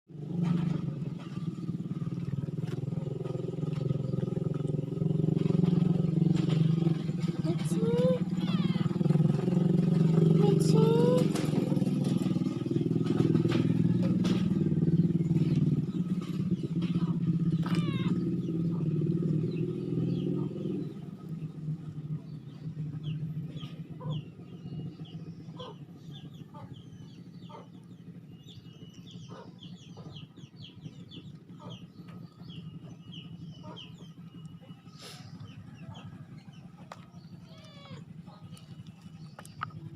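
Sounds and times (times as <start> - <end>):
birds chirping: 0.1 - 39.9
motor engine humming: 0.1 - 39.9.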